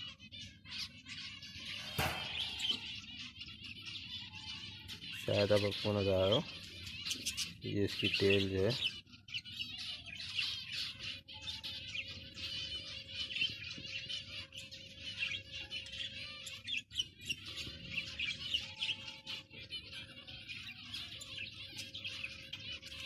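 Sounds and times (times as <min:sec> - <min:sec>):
finches chirping: 0:00.0 - 0:23.0.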